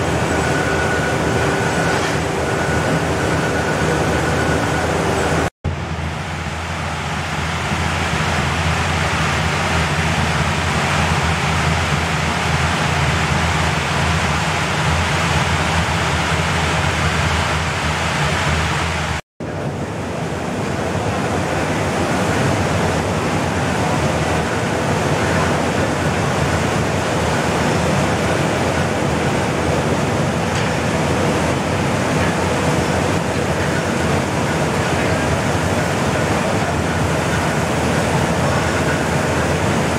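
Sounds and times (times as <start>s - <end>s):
electric blowers rushing air: 0.0s - 39.9s.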